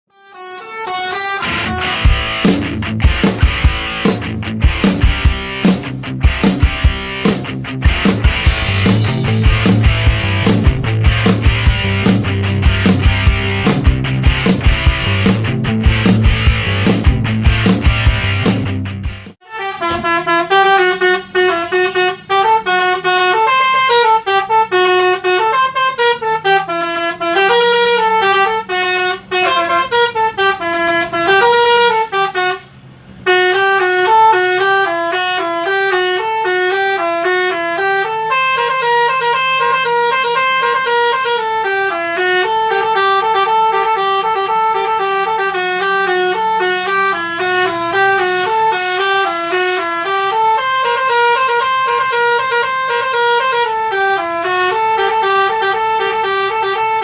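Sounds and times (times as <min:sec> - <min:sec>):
loud horn playing a tune: 0:00.1 - 0:18.8, 0:19.4 - 0:57.0.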